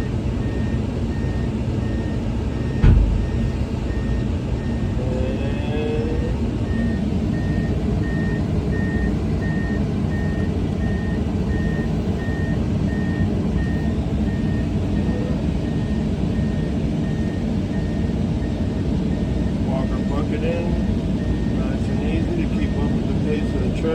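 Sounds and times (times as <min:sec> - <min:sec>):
diesel engine rumble: 0:00.0 - 0:23.9
excavator travel alarm beeping: 0:00.0 - 0:23.9.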